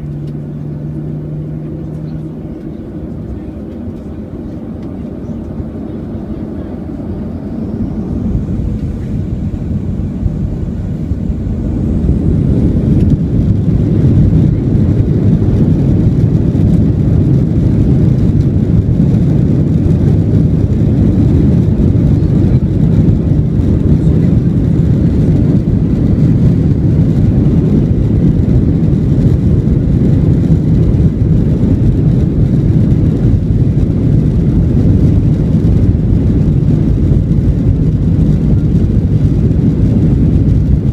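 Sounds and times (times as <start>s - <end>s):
jet engine low rumble: 0.0s - 40.9s
jet engines spooling up: 0.0s - 40.9s.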